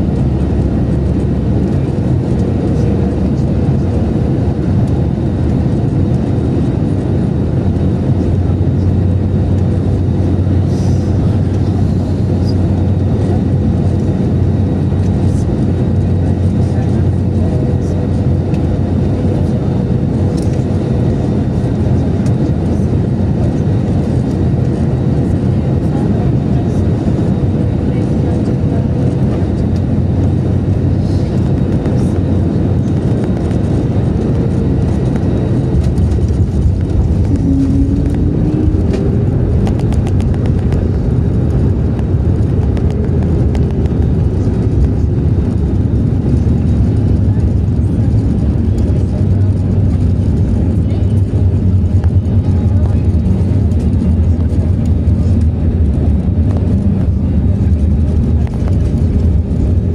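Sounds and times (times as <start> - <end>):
aircraft cabin engine and airflow noise: 0.0 - 59.9.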